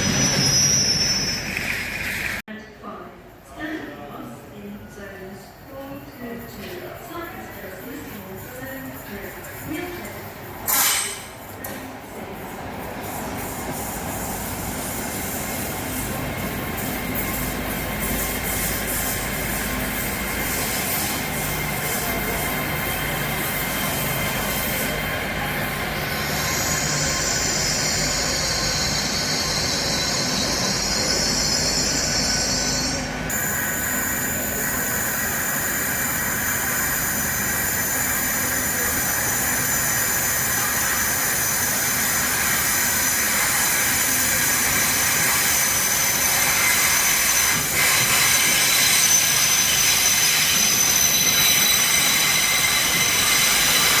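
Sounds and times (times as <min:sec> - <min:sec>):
high wheel squeal: 0:00.0 - 0:02.4, 0:13.0 - 0:54.0
train running on rails: 0:00.0 - 0:02.4, 0:04.3 - 0:54.0.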